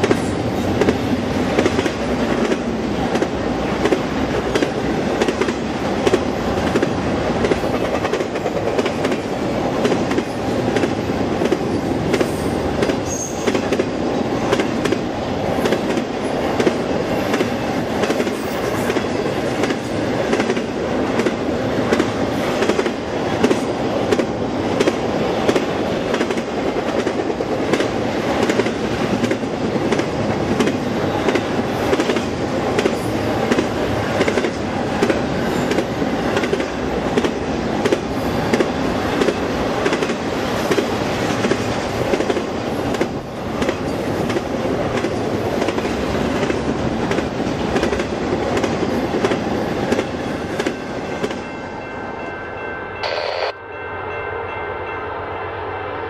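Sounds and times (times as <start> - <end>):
train wheels rumbling on rail: 0.0 - 52.7.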